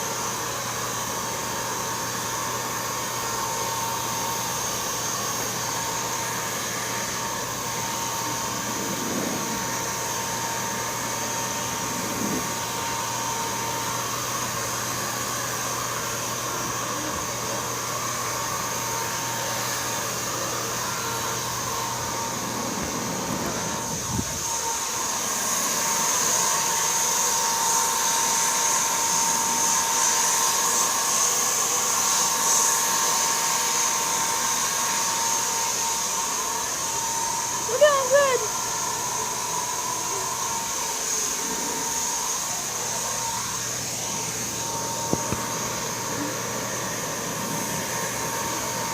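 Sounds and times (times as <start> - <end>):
paint spray gun motor whining: 0.0 - 48.9.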